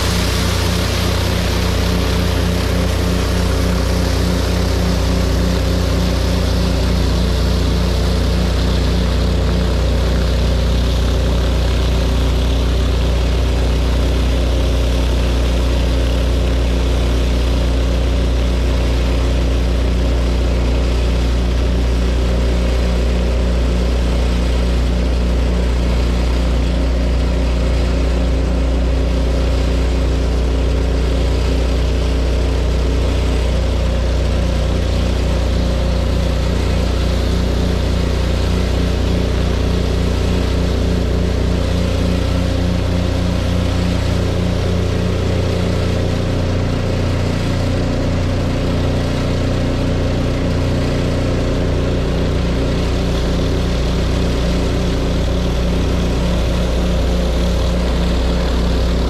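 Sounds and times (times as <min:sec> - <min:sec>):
pressure washer engines running: 0:00.0 - 0:59.0.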